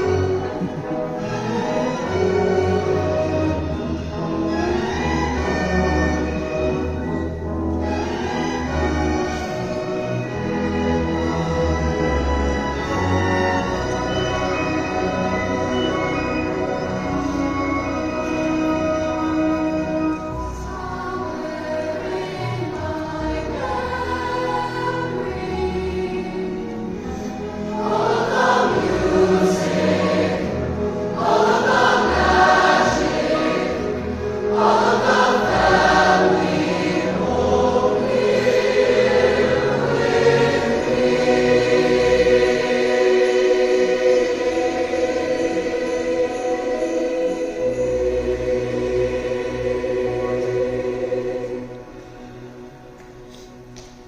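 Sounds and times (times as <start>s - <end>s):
choir singing sustained chords: 0.0s - 53.6s.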